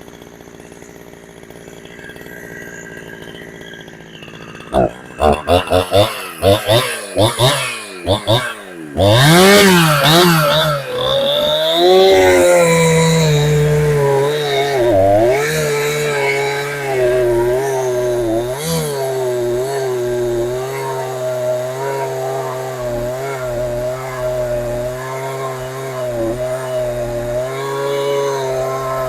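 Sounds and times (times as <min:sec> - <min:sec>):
chainsaw engine at high revs: 0:00.0 - 0:29.0.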